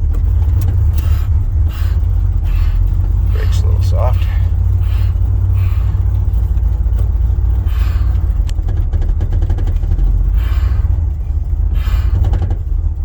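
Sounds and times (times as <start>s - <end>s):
pickup engine rumbling: 0.0s - 13.0s.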